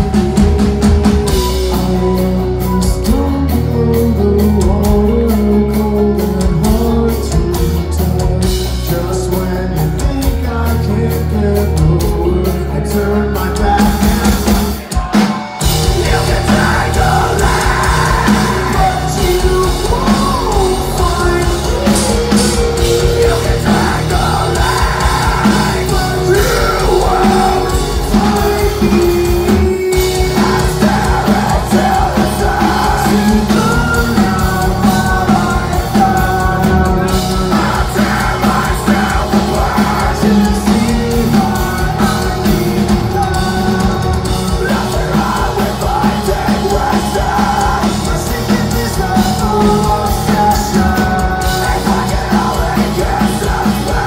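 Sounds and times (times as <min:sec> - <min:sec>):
distorted guitars: 0:00.0 - 0:54.0
drums: 0:00.0 - 0:54.0
person singing: 0:00.0 - 0:54.0.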